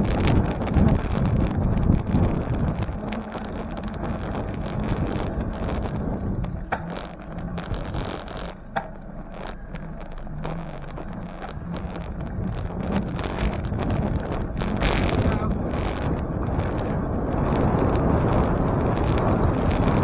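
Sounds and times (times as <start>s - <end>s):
bicycle road rumble: 0.0s - 20.0s
wind buffeting microphone: 0.0s - 20.0s.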